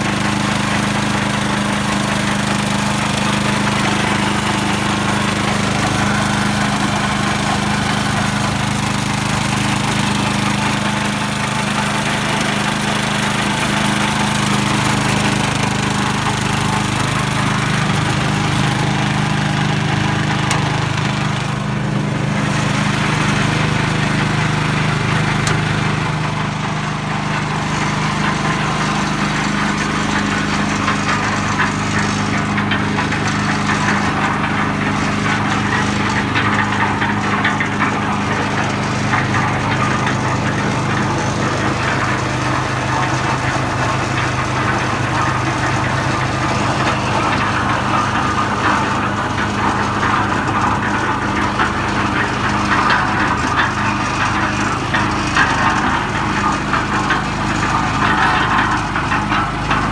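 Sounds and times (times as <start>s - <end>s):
concrete mixer engine running: 0.0s - 59.9s.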